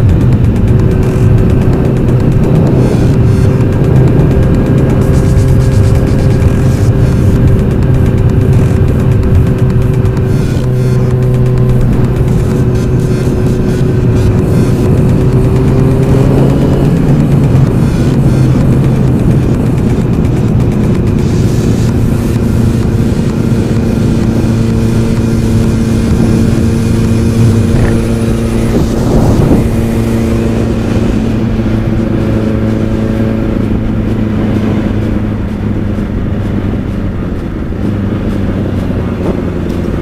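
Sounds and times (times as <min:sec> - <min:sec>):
motorcycle engine cruising: 0:00.0 - 0:40.0
wind rushing over microphone: 0:00.0 - 0:40.0.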